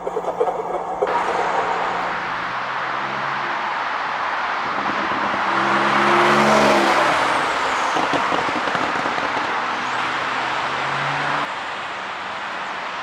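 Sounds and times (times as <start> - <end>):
car engine exhaust: 0.0 - 13.0.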